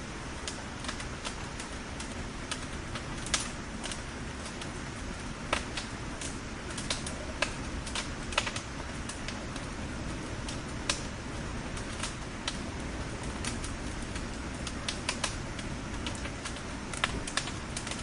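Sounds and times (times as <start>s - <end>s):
bonfire crackling and popping: 0.0s - 18.0s
low rumble of flames: 0.0s - 18.0s.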